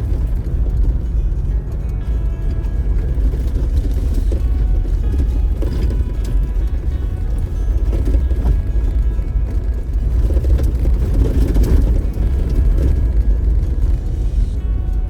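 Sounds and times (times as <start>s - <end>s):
faint music: 0.0s - 15.0s
vehicle engine and road rumble: 0.0s - 15.0s.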